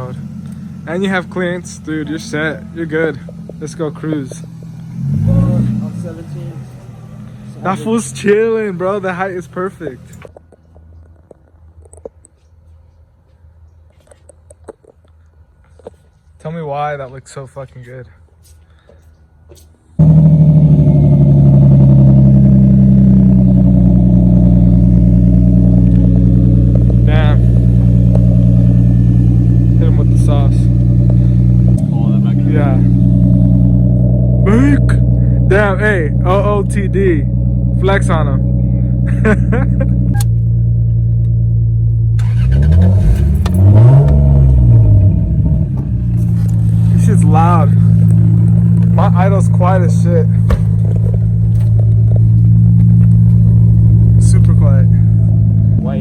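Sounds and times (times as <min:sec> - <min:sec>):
car engine and exhaust running: 0:00.0 - 0:12.1, 0:20.0 - 0:56.0.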